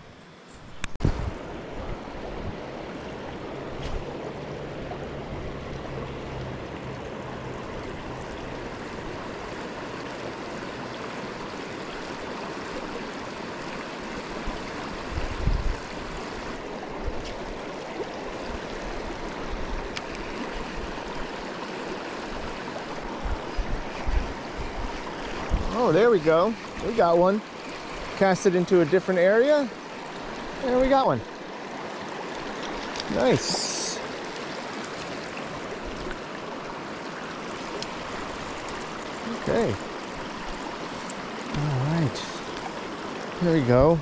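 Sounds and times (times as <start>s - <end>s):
creek water rushing over rocks: 0.1s - 44.0s.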